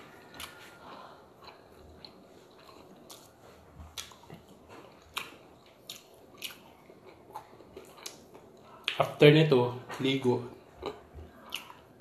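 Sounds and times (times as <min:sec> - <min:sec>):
chewing with wet mouth smacks: 0:00.2 - 0:09.0, 0:10.6 - 0:12.0.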